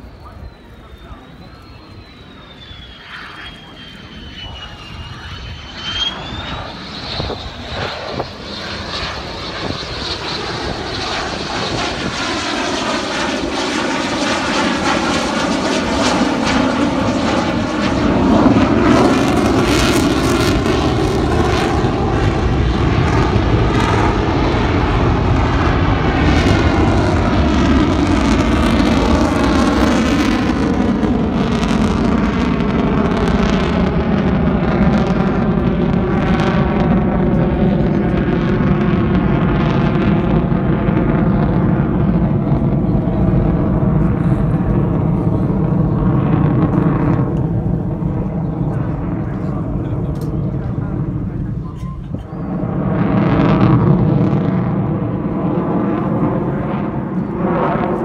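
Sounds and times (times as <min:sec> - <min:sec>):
fighter jet engine roar: 0:00.0 - 0:58.0.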